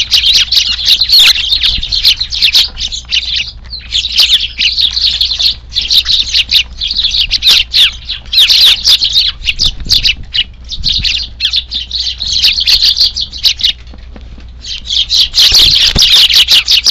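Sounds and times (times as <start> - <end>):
sparrows chirping and chattering: 0.0 - 16.9.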